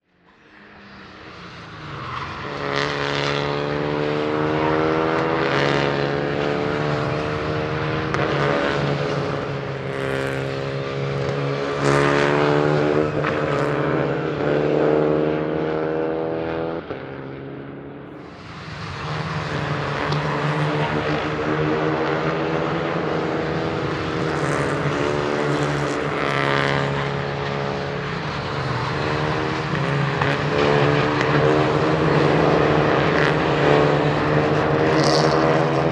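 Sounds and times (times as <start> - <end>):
race cars driving past: 0.1 - 35.9.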